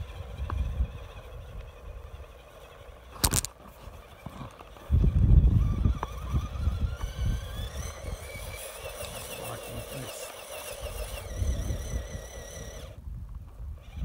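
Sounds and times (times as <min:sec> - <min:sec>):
electric motor and gear whine: 0:00.0 - 0:14.0
wind rumbling on microphone: 0:00.0 - 0:14.0.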